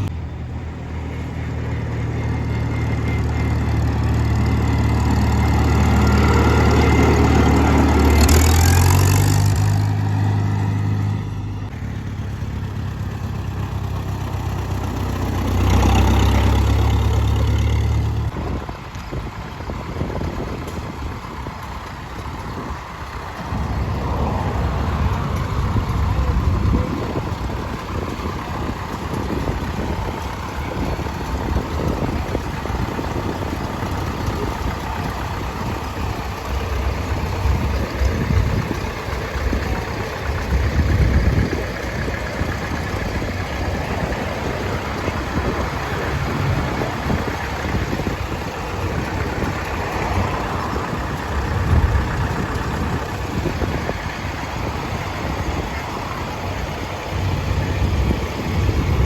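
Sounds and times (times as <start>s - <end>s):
tractor engine rumbling: 0.0s - 59.0s.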